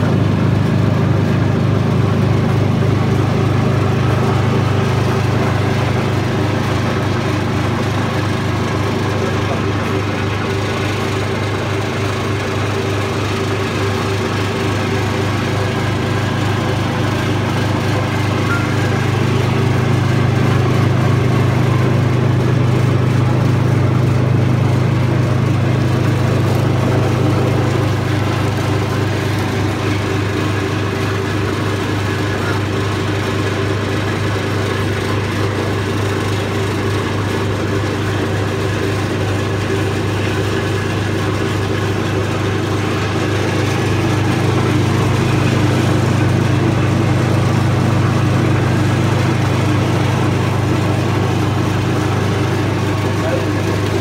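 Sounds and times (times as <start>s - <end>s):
flour sifter humming: 0.0s - 54.0s.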